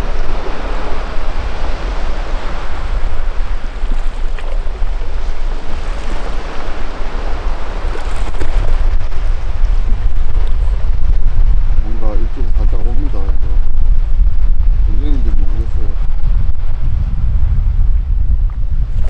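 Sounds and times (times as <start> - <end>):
surf on rocky shore: 0.0 - 19.0
wind buffeting microphone: 0.0 - 19.0.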